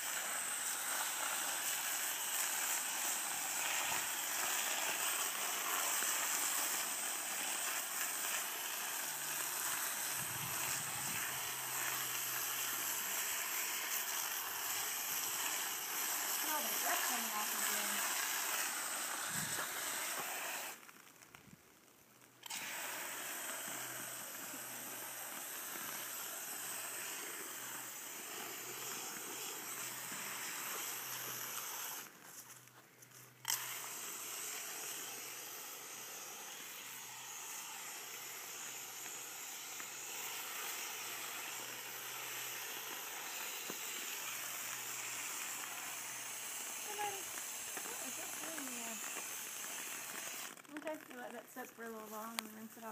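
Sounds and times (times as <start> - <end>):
hose water spray hissing: 0.0 - 21.4, 22.2 - 52.9.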